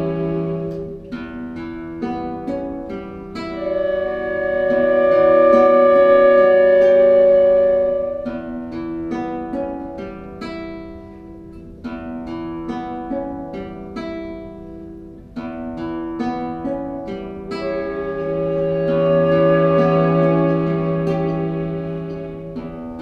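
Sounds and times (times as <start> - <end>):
acoustic guitar plucking: 0.0 - 23.0.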